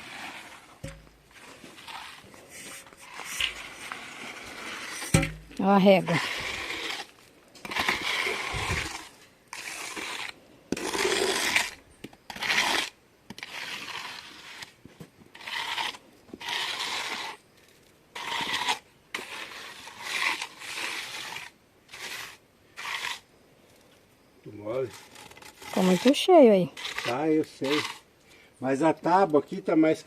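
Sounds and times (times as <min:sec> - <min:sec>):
hand tool scraping wet mortar: 0:00.0 - 0:23.3, 0:24.6 - 0:28.1.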